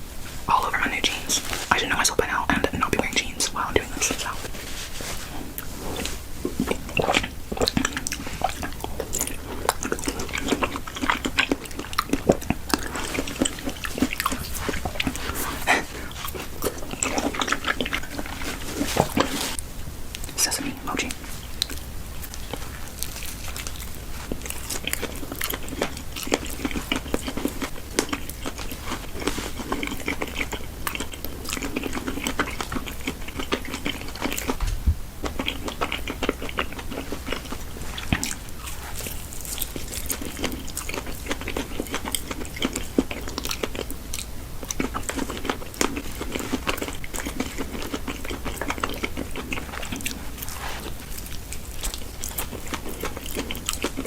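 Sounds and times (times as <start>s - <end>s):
chewing and biting food: 0.6s - 54.0s.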